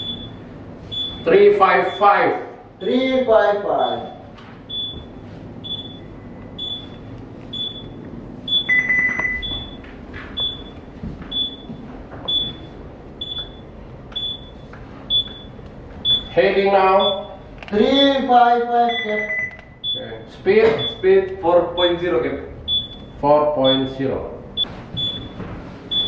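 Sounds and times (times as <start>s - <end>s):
electronic alarm beeping: 0.0s - 3.0s, 3.6s - 9.8s, 10.4s - 17.5s, 18.7s - 21.1s, 21.7s - 22.1s, 22.7s - 24.0s, 24.6s - 26.0s
low steady hum: 0.0s - 26.0s.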